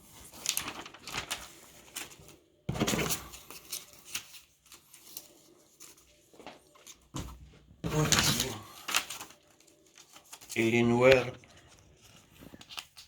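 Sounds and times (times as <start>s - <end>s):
packaging and paper rustling: 0.0s - 13.0s.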